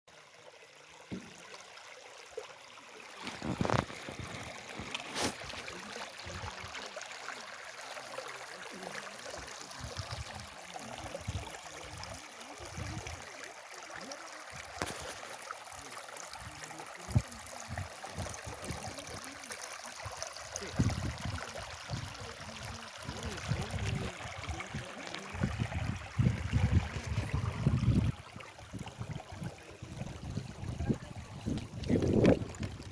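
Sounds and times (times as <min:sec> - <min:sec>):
river water flowing: 0:00.1 - 0:32.9.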